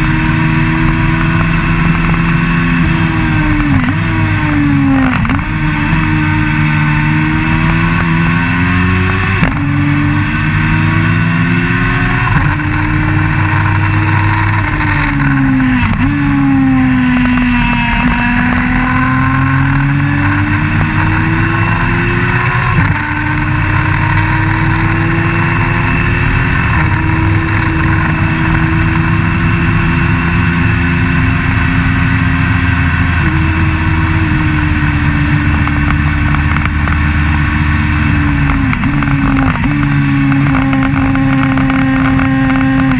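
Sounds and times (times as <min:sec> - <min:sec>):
race car engine accelerating: 0:00.0 - 0:42.9.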